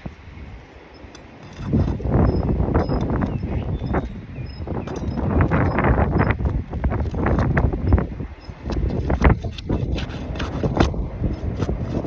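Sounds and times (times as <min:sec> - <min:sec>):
scraping and crunching roof shingles: 0:01.2 - 0:12.0.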